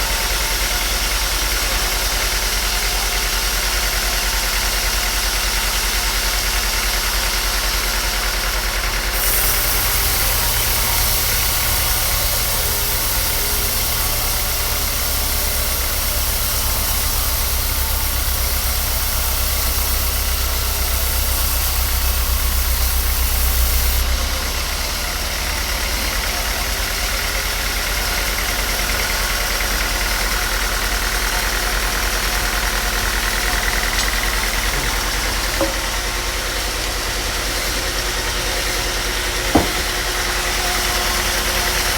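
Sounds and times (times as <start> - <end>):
woodworking machine humming: 0.0 - 41.9.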